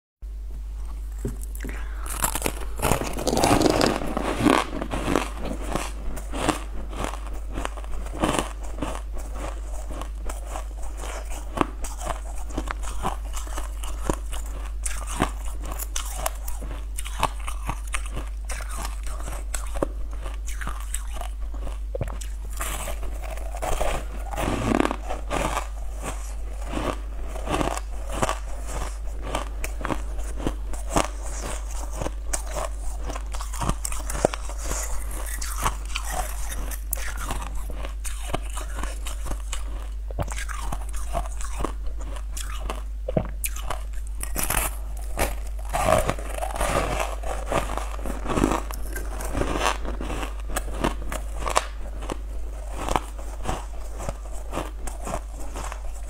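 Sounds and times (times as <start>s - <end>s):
chewing crunchy food: 0.8s - 56.0s.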